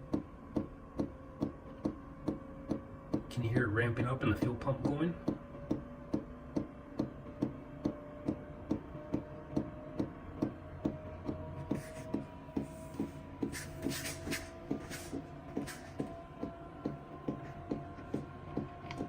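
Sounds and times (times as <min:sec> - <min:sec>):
fan motor humming: 0:00.0 - 0:19.0.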